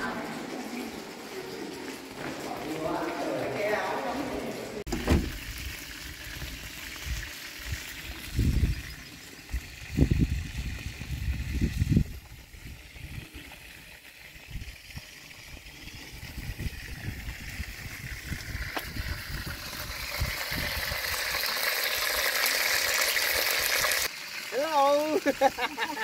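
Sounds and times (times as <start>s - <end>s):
food frying in hot oil: 5.1s - 26.0s.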